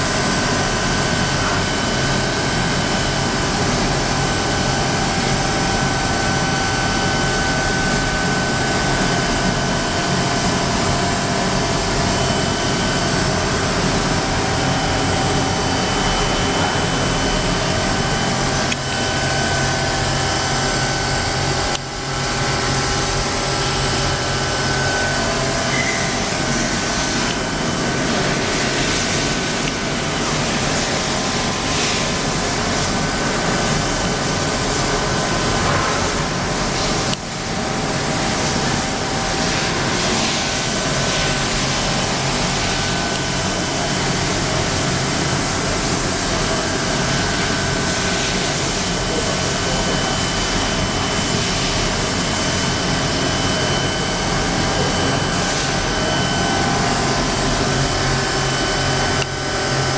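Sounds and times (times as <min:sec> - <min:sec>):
machine whirring and whining: 0:00.0 - 0:59.9.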